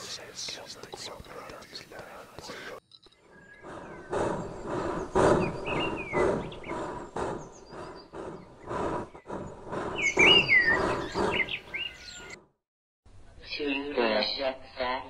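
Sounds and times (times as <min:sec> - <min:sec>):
bird chirping: 0:00.0 - 0:12.5.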